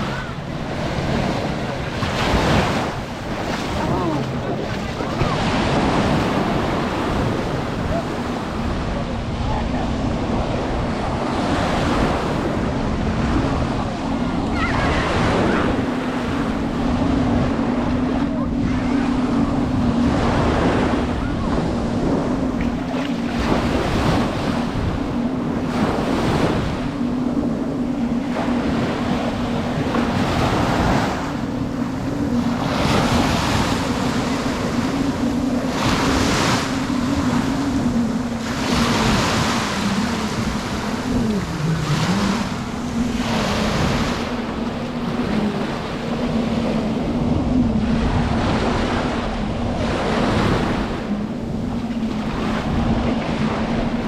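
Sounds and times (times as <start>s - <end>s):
ocean waves breaking on beach: 0.0s - 54.0s
steady low hum: 0.0s - 54.0s
wind buffeting microphone: 0.0s - 54.0s.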